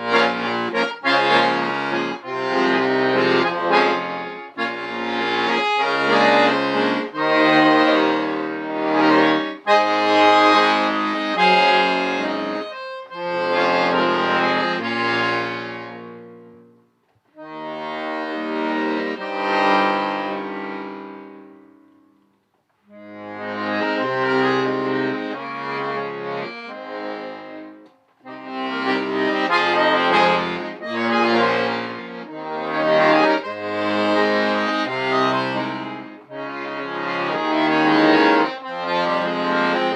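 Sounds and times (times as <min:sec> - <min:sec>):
solo accordion: 0:00.0 - 0:39.9.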